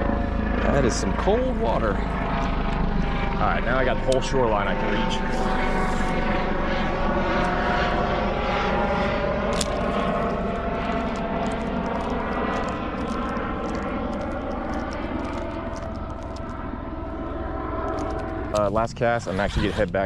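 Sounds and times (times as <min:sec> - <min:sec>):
propeller airplane engine droning: 0:00.0 - 0:20.0.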